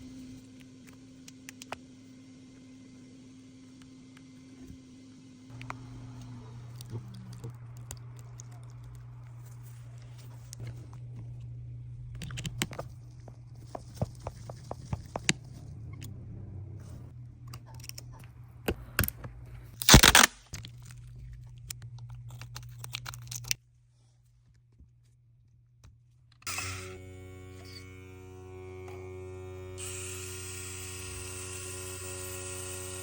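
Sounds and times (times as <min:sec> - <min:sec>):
low equipment hum: 0:00.0 - 0:33.0.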